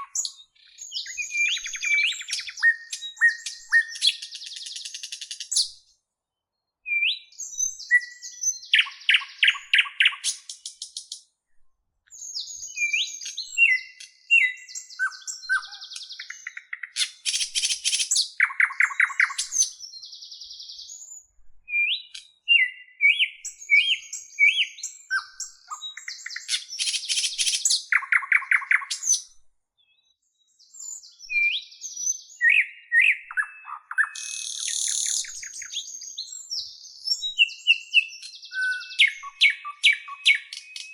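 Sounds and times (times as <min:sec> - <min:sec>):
bird singing whistles and trills: 0:00.0 - 0:05.9, 0:06.8 - 0:11.2, 0:12.1 - 0:40.9.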